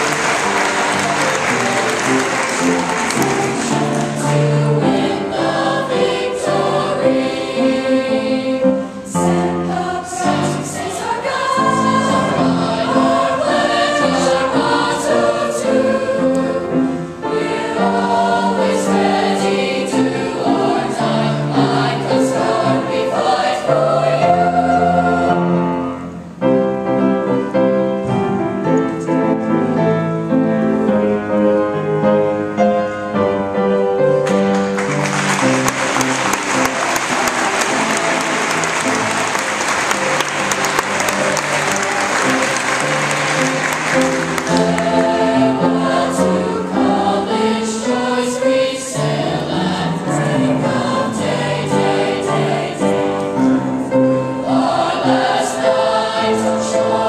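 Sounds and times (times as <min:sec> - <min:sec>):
youth choir singing: 0:00.0 - 0:26.0, 0:34.7 - 0:57.0.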